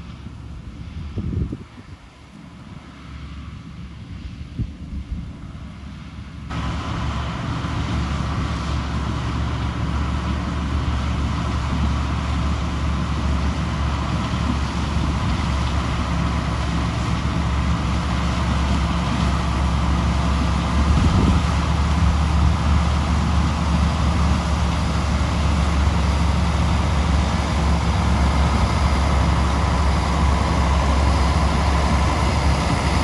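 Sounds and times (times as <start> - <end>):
farm machinery engine droning: 0.0 - 33.0.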